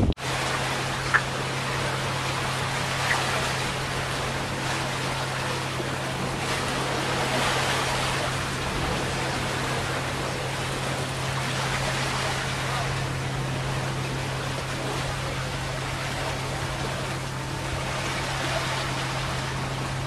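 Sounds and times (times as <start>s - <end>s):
constant low hum: 0.0s - 20.0s
sea waves: 0.0s - 20.0s.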